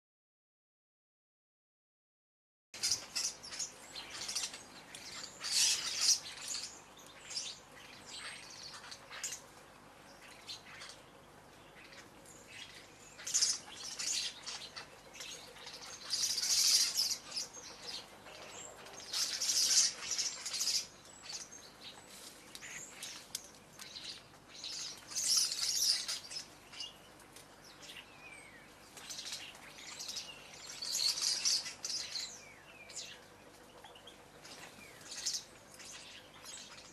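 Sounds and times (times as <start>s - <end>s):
small birds chirping: 2.8s - 36.9s.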